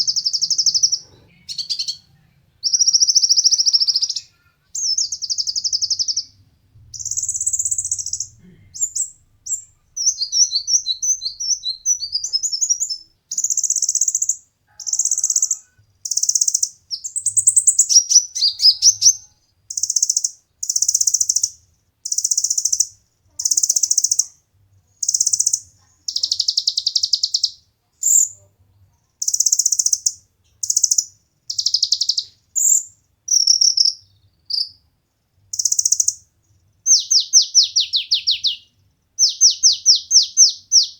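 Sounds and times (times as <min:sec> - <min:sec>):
songbird singing trilled phrases: 0:00.0 - 0:28.4, 0:29.2 - 0:34.8, 0:35.5 - 0:40.9.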